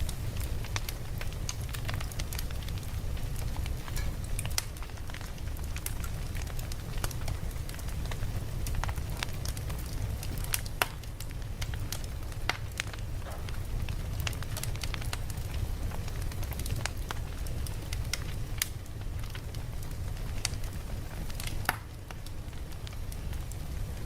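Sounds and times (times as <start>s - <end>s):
campfire crackling: 0.0s - 24.0s
low rumble of flames: 0.0s - 24.0s.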